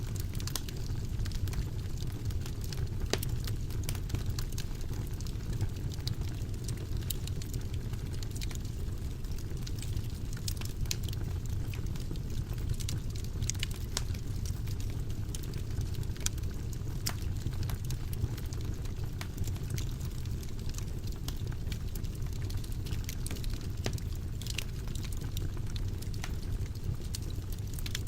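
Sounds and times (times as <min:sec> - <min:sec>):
fire burning in fireplace: 0:00.0 - 0:28.0
fire crackles and pops: 0:00.0 - 0:28.0.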